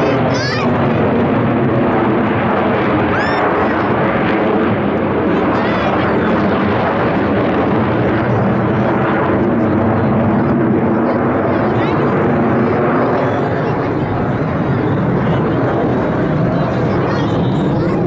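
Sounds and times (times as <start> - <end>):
jet engine noise overhead: 0.0 - 18.0.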